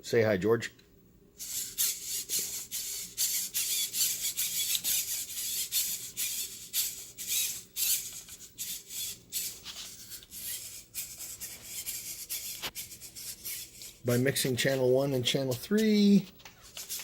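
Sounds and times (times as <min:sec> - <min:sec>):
small servos whirring: 0:01.4 - 0:14.9, 0:15.5 - 0:17.0.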